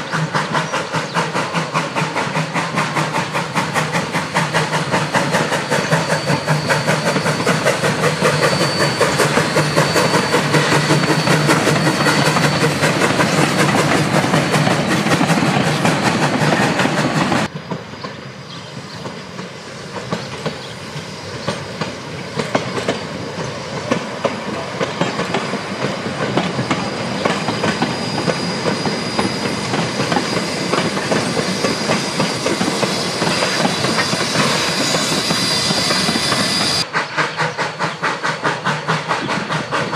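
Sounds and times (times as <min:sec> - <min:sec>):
wheels clacking over rails: 0:00.0 - 0:18.1, 0:21.4 - 0:39.9
steam train rolling along track: 0:00.0 - 0:39.9.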